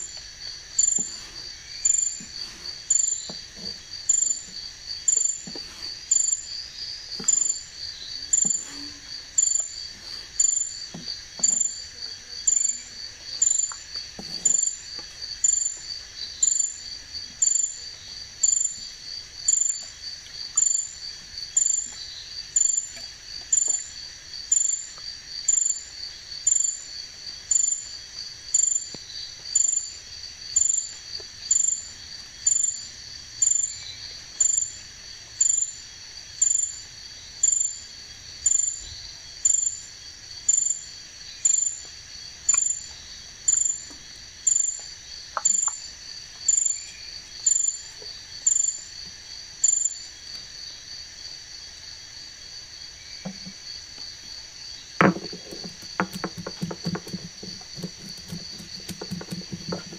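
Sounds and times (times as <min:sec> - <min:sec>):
crickets trilling: 0:00.0 - 0:59.9
insect chirping: 0:00.0 - 0:59.9.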